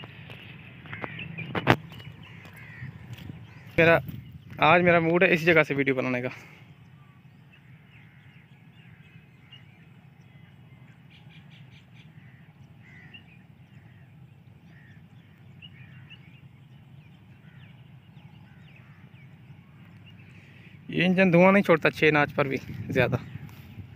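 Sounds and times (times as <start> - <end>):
birds chirping and calling: 0.0 - 23.9
low steady rumble: 0.0 - 23.9.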